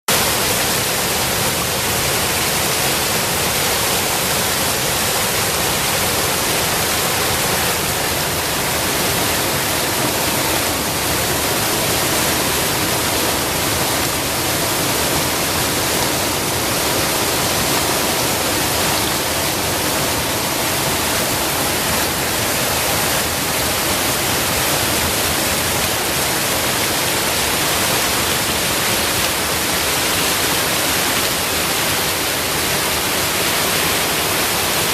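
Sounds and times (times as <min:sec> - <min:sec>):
stream splashing over drop: 0:00.1 - 0:34.9.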